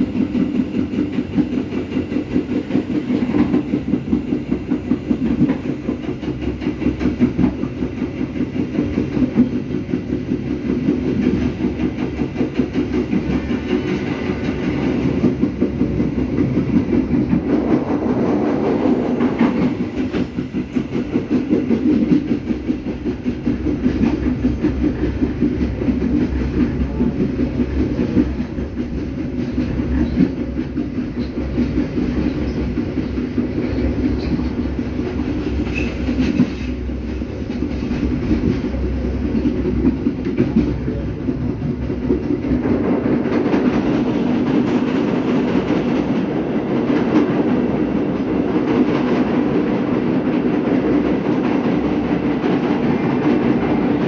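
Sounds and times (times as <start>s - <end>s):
train rolling rumble: 0.0s - 54.0s
wheels clattering on rails: 0.0s - 54.0s.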